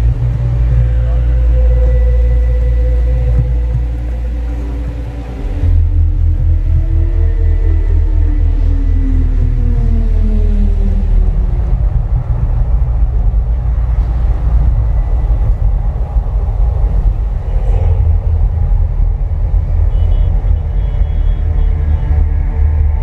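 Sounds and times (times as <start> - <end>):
deep rumble of eruption effects: 0.0 - 23.0.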